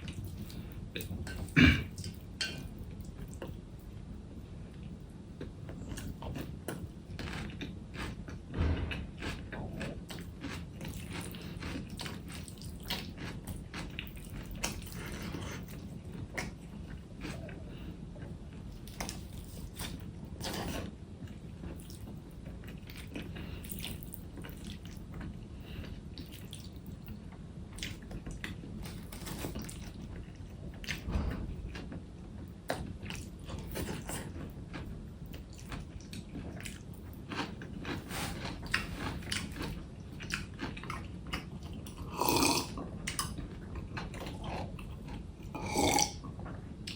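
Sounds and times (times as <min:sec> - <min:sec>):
low steady hum: 0:00.0 - 0:46.9
person chewing food: 0:04.7 - 0:31.0, 0:32.6 - 0:46.9.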